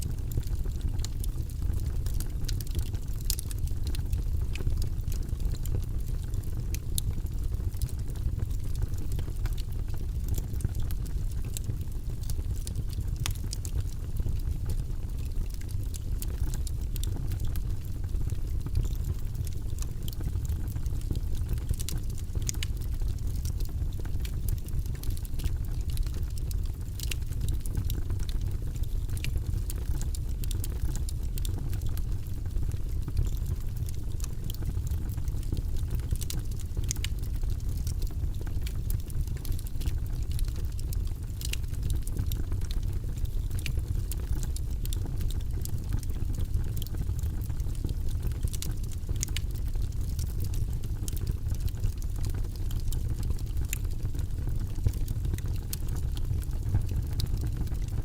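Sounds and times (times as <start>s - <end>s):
fire crackles and pops: 0.0s - 58.0s
low rumble of flame: 0.0s - 58.0s.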